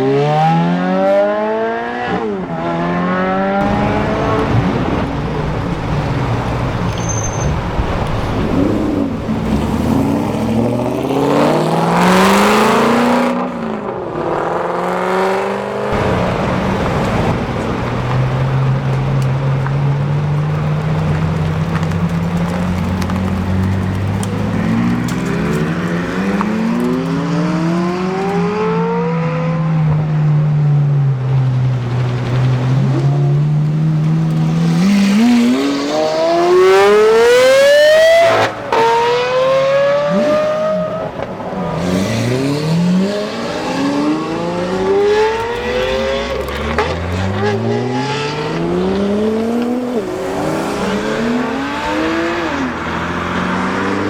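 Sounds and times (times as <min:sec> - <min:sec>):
sports car engines accelerating: 0:00.0 - 0:54.0.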